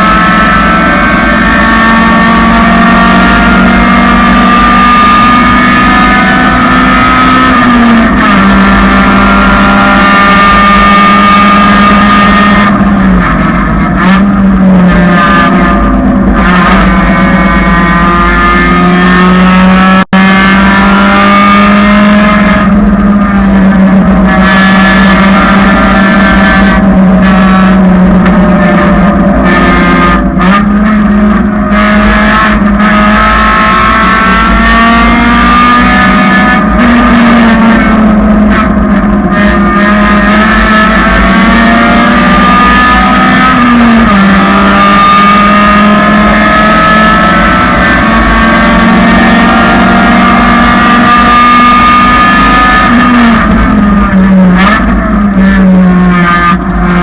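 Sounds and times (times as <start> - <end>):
car engine running hard: 0.0 - 57.0.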